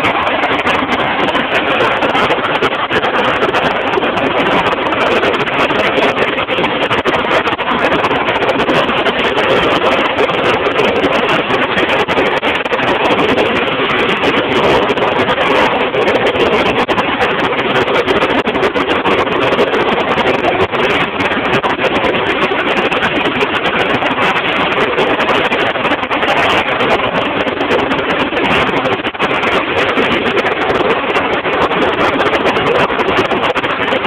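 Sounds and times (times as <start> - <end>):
jet engine hovering: 0.0 - 34.0.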